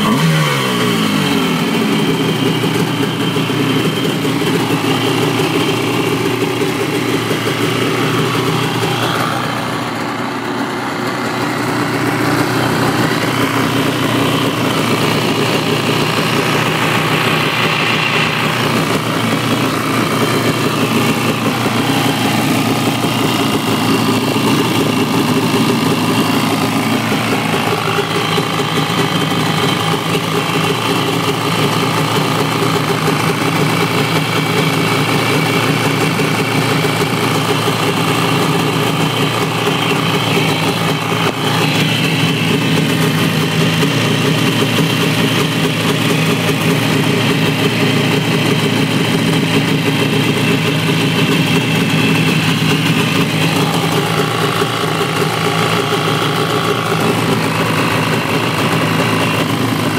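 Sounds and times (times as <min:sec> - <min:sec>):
jet ski engine idling: 0:00.0 - 0:59.9.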